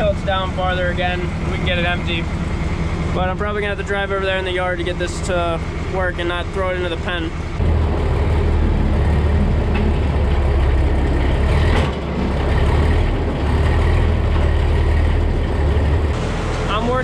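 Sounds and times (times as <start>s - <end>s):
tractor engine under load: 0.0s - 17.0s.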